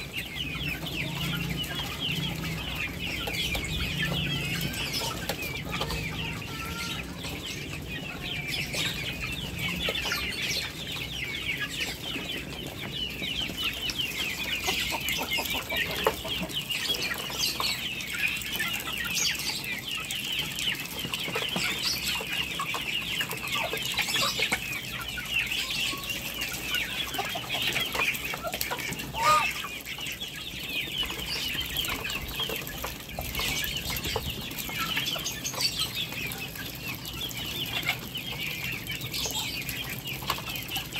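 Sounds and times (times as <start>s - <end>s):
poultry chirping and clucking: 0.0s - 40.9s.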